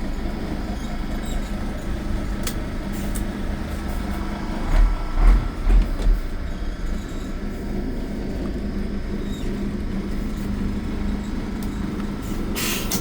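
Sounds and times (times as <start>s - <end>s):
heavy low rumbles: 0.0s - 13.0s
truck diesel engine running: 0.0s - 13.0s.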